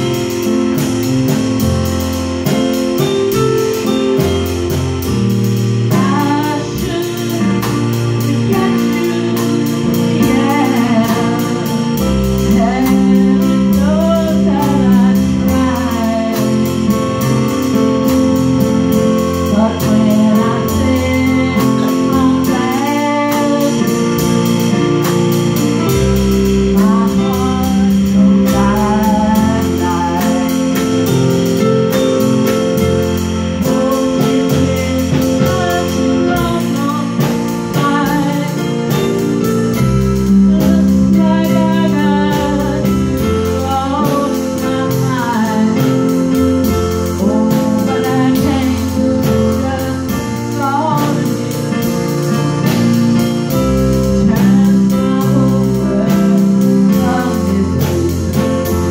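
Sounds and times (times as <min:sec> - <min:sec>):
electronic keyboards: 0:00.0 - 0:58.9
woman singing: 0:05.8 - 0:17.8, 0:18.6 - 0:32.1, 0:32.7 - 0:58.9.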